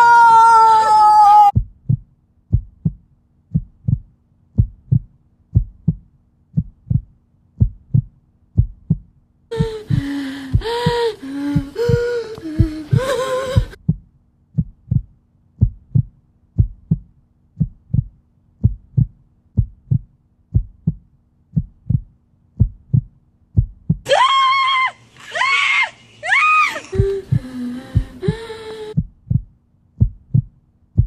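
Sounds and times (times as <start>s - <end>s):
heartbeat thumps: 1.5s - 24.1s, 27.0s - 31.0s
faint steady hum: 1.6s - 31.0s.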